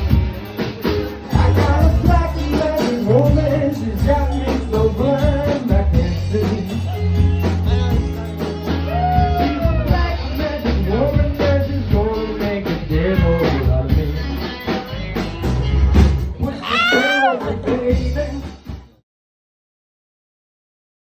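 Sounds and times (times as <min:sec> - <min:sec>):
person singing: 0:00.0 - 0:15.7, 0:16.3 - 0:18.9
rock band playing: 0:00.0 - 0:19.0.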